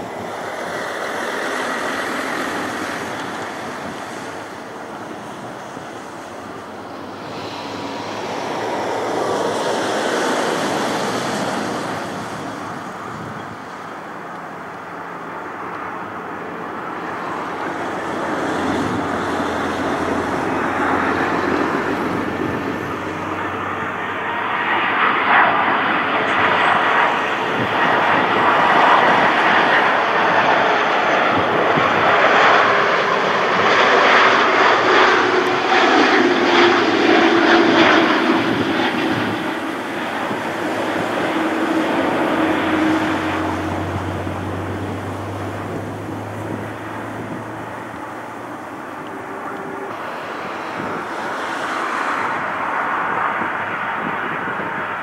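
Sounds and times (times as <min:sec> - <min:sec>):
jet airliner engines whining: 0:00.0 - 0:55.0.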